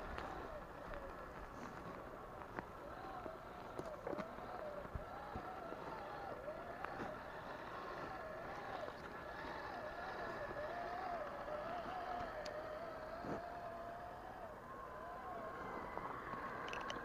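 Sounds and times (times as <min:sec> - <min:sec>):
faint ticks: 0:00.0 - 0:14.0, 0:15.3 - 0:17.0
electric motor and gears whining: 0:00.0 - 0:17.0.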